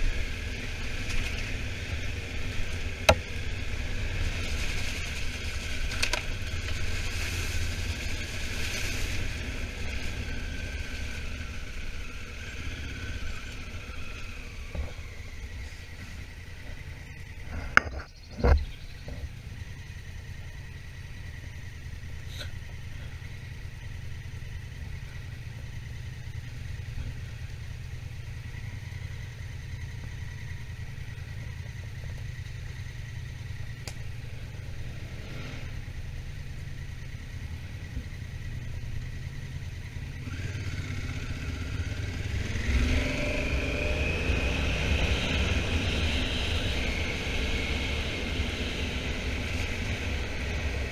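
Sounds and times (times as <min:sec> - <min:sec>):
motorcycle engine rumble: 0:00.0 - 0:50.9.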